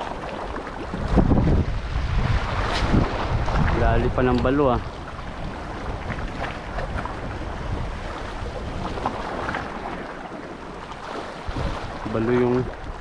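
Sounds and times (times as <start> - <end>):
sea waves: 0.0 - 13.0
wind buffeting microphone: 0.0 - 13.0.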